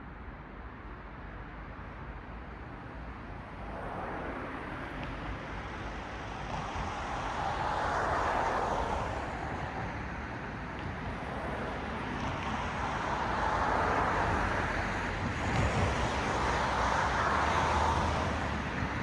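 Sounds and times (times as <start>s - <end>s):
low traffic rumble: 0.0s - 19.0s
car passing with tyre noise: 2.0s - 19.0s.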